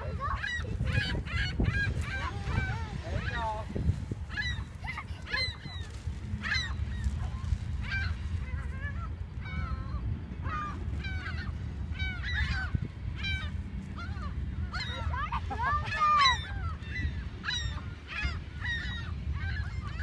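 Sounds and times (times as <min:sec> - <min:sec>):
gulls calling: 0:00.0 - 0:20.0
steady low rumble: 0:00.0 - 0:20.0.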